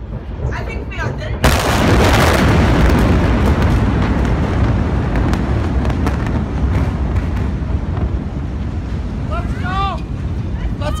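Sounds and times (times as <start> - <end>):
explosion rumbling roar: 0.0 - 11.0
sharp crackles and pops: 0.0 - 11.0.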